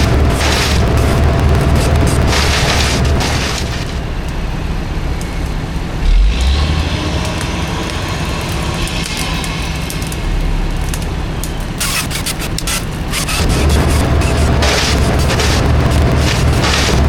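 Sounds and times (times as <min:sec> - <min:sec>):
hissing noise: 0:00.0 - 0:04.5, 0:07.4 - 0:17.0
heavy equipment rumbling: 0:00.0 - 0:17.0.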